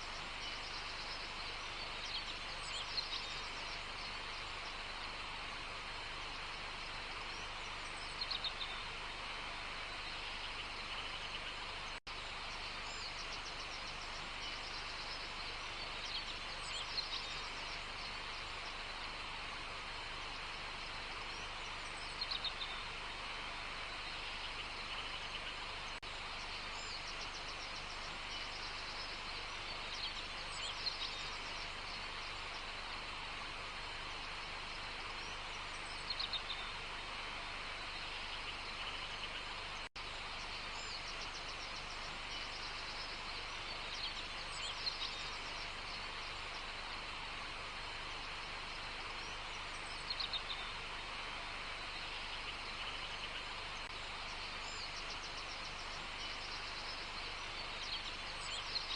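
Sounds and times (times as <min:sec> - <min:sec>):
steady outdoor hiss: 0:00.0 - 0:58.9.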